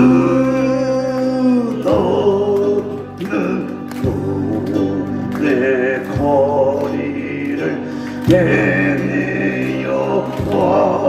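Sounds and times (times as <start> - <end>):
backing music: 0.0 - 11.0
person singing with vibrato: 0.0 - 11.0.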